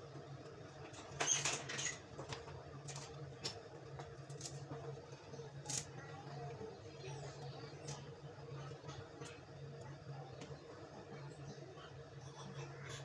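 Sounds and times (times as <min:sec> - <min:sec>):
steady low hum: 0:02.1 - 0:13.0.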